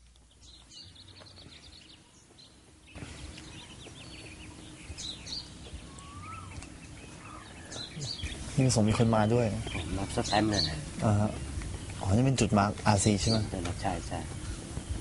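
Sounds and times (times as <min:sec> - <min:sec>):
quiet outdoor background noise: 0:00.0 - 0:15.0
small birds chirping: 0:00.0 - 0:15.0.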